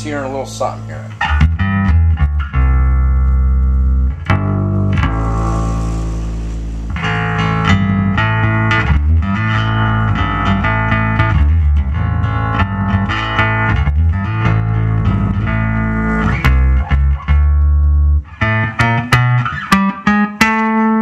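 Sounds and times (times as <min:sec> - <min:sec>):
plucked bass guitar notes: 0:00.0 - 0:21.0.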